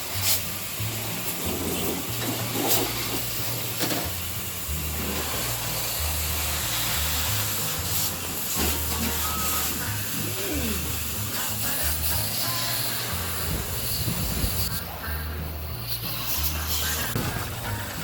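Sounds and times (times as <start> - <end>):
pressure washer spraying water: 0.0 - 18.0.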